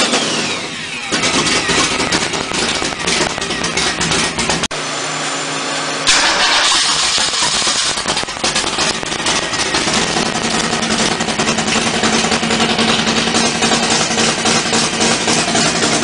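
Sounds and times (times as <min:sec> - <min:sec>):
drag car engine revving and idling: 0:00.0 - 0:16.0.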